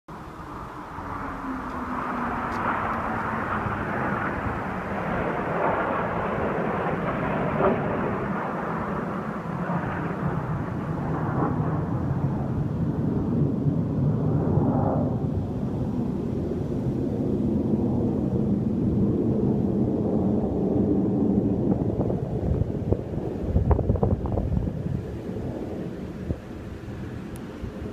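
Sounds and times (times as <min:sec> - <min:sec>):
jet engines roaring overhead: 0:00.1 - 0:27.9.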